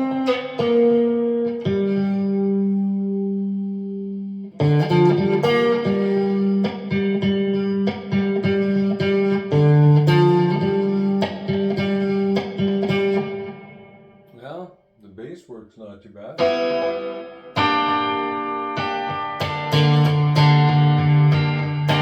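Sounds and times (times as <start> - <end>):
electric guitar picked notes: 0.0 - 14.3, 16.4 - 22.0.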